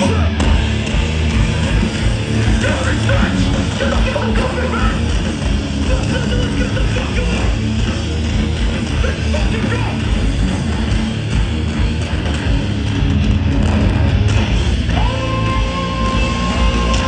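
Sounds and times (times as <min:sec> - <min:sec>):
hardcore band playing live: 0:00.0 - 0:17.0.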